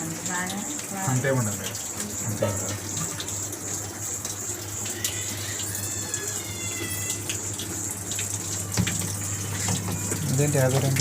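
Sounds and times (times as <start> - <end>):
water rushing into washing machine: 0.0 - 11.0.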